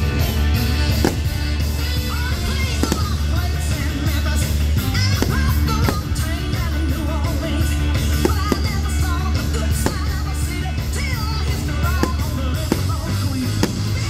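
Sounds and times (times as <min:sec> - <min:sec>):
rock song with singing: 0:00.0 - 0:14.0
firework shells bursting: 0:00.6 - 0:14.0.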